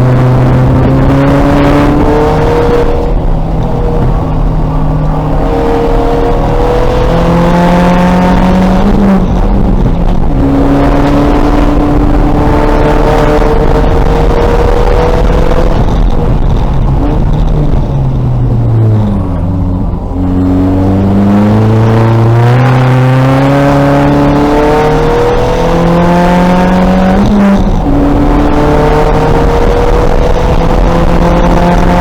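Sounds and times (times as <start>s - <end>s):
race car engine running under load: 0.0s - 32.0s.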